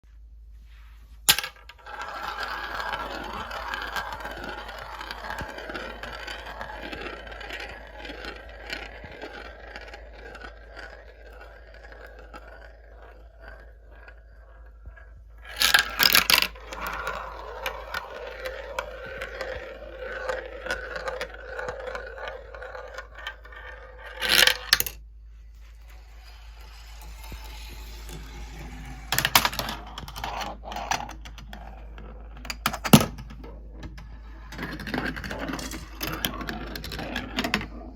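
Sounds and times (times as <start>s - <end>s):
marbles rolling on tracks: 1.2s - 37.9s
marbles dropping and clattering: 1.3s - 37.9s.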